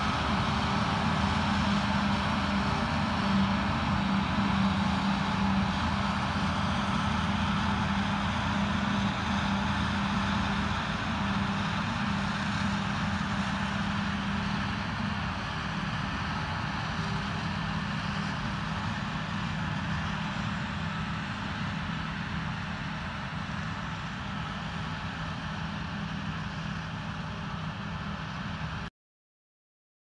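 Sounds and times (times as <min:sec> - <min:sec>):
harvester and tractor running: 0:00.0 - 0:28.9.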